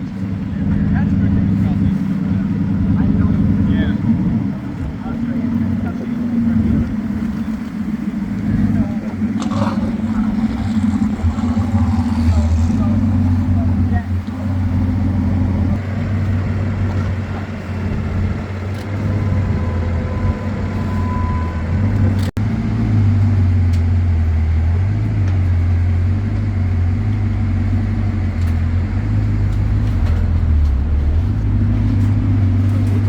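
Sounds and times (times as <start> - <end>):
engine rumbling at low revs: 0.0 - 33.0.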